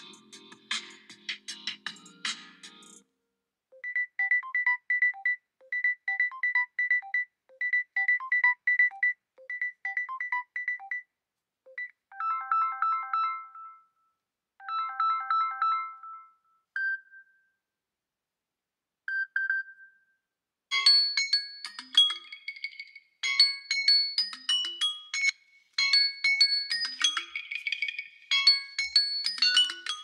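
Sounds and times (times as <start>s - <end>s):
ringtone melody of tones: 0.0s - 3.0s, 3.7s - 11.1s, 11.7s - 17.5s, 20.7s - 30.0s.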